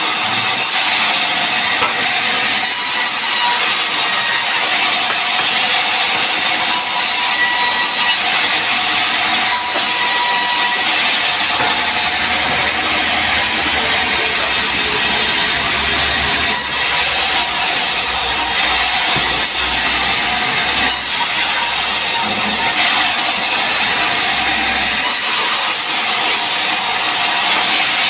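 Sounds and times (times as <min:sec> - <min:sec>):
saw cutting through wood: 0:00.0 - 0:28.0.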